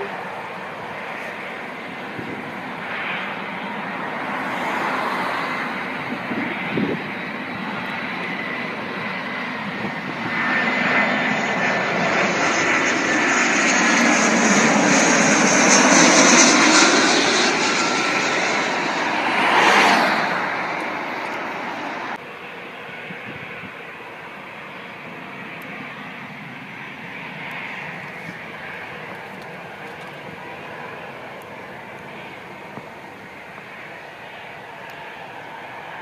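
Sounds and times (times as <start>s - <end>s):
jet airliner engine roar: 0.0s - 36.0s.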